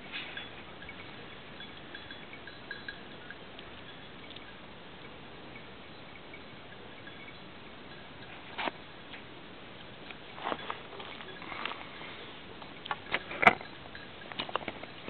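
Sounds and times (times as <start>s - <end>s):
faint open-air hiss: 0.0s - 15.0s
high tinkling ticks: 0.3s - 15.0s.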